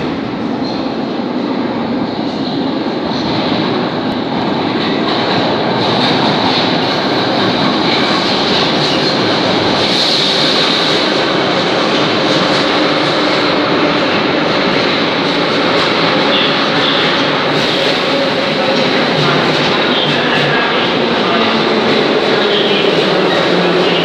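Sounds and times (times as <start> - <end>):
metro train rumble: 0.0 - 24.0.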